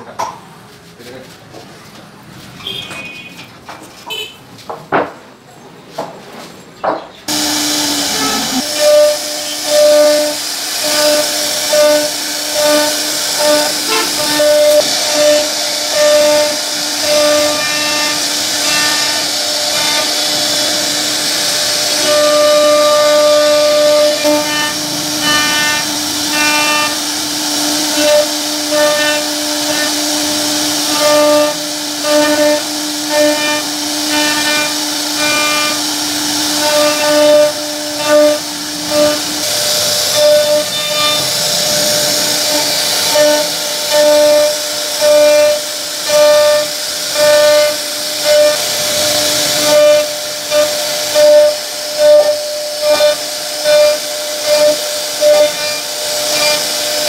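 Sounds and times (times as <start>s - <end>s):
wood router whining and cutting: 7.3s - 57.0s.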